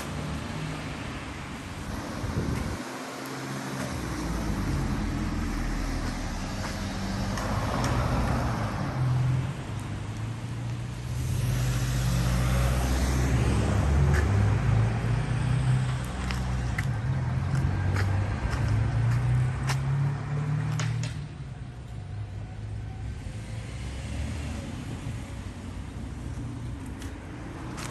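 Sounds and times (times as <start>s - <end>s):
road noise: 0.0s - 27.9s
vehicle engines running: 0.0s - 27.9s.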